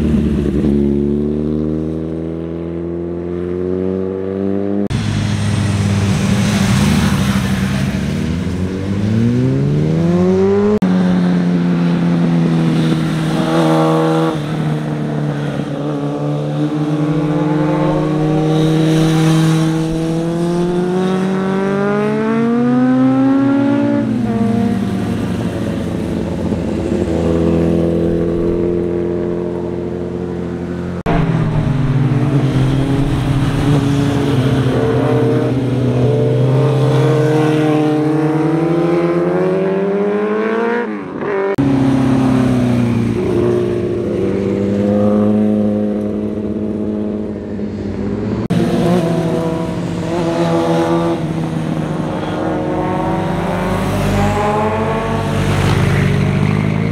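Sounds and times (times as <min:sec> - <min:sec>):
motorcycle engines accelerating: 0:00.0 - 0:56.9.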